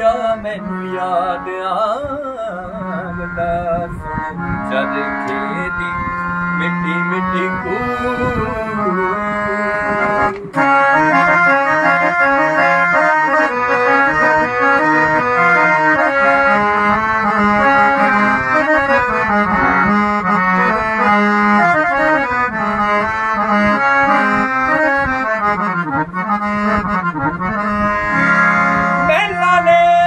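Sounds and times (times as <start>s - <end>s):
harmonium playing a melody: 0.0s - 30.0s.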